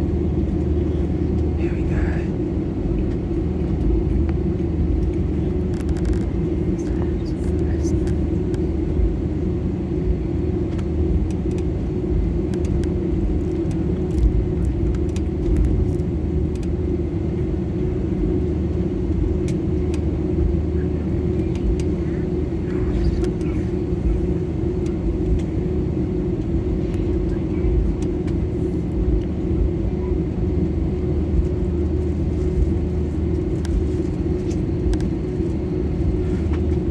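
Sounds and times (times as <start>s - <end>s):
jet engine cabin drone: 0.0s - 36.9s
steady low hum: 0.0s - 36.9s.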